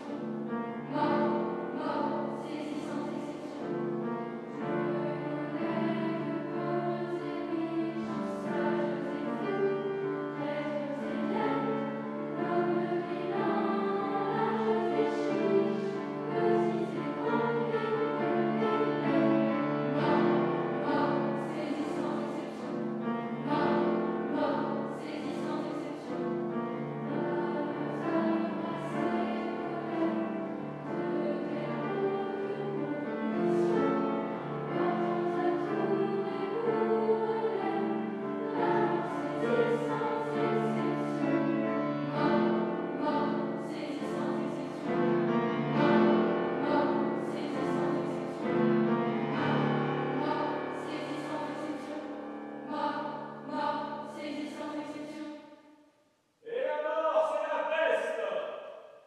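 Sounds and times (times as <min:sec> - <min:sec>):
grand piano accompaniment: 0:00.0 - 0:54.2
children's choir singing: 0:00.0 - 0:55.4.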